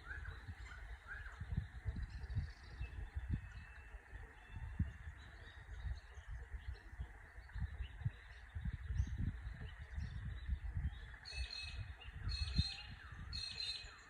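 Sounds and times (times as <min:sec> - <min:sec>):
small birds chirping: 0:00.0 - 0:14.0
wind buffeting microphone: 0:00.0 - 0:14.0.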